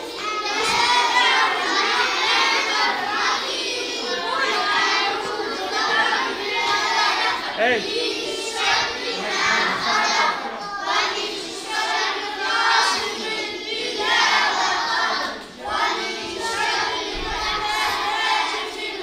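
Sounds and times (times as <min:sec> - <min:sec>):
children reciting in unison: 0:00.0 - 0:19.0.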